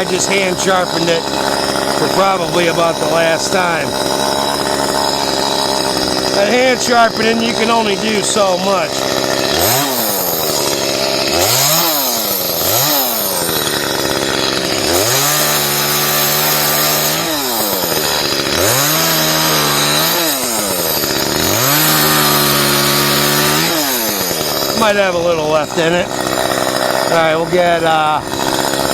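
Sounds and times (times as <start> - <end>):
chainsaw revving: 0.0 - 28.9.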